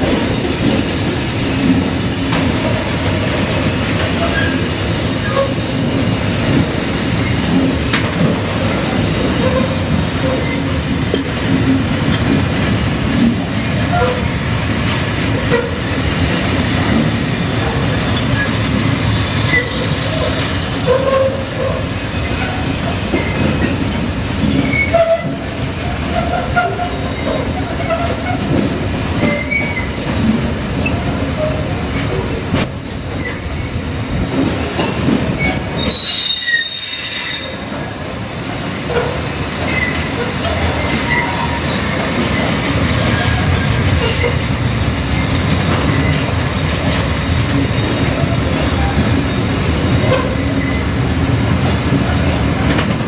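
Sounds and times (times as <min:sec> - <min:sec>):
train clicks: 0:00.0 - 0:04.6, 0:05.2 - 0:15.9, 0:16.8 - 0:33.4, 0:34.1 - 0:36.7, 0:38.8 - 0:53.0
steel wheels rumbling on rail: 0:00.0 - 0:53.0.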